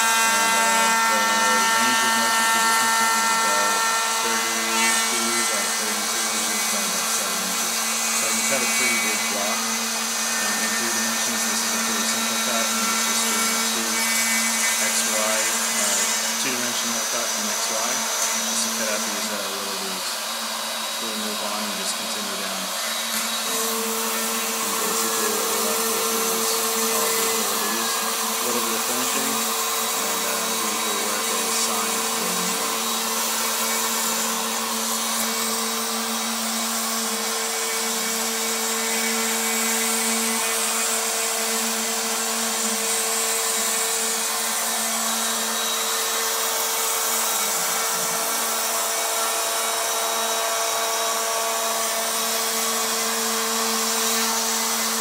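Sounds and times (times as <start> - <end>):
router spindle motor hum and whine: 0.0 - 55.0.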